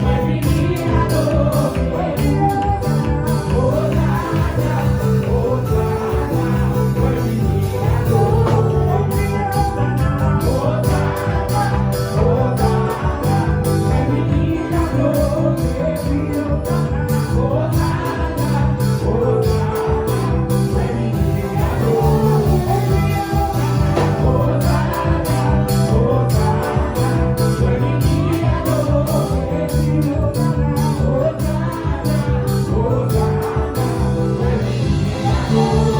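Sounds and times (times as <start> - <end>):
band playing worship song: 0.0 - 35.9
guitar: 0.0 - 35.9.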